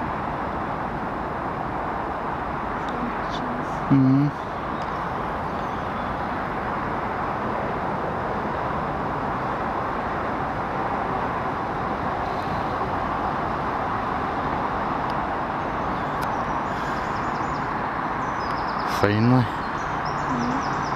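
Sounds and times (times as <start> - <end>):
outdoor background roar: 0.0 - 20.9.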